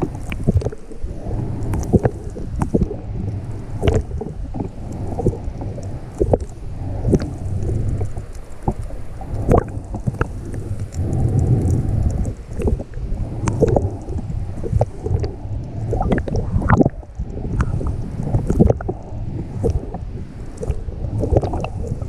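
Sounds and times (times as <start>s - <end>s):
sharp clicks and crackles: 0.0s - 1.0s, 1.6s - 22.0s
low rumbling underwater wash: 0.0s - 22.0s.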